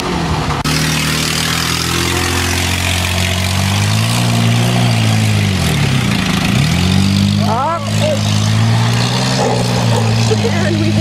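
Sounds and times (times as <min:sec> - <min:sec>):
truck engine revving: 0:00.0 - 0:11.0
tyres through mud: 0:00.0 - 0:11.0.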